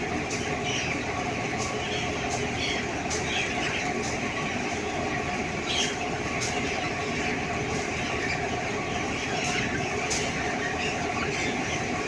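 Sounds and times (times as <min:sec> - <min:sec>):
chickens chirping: 0:00.0 - 0:12.0.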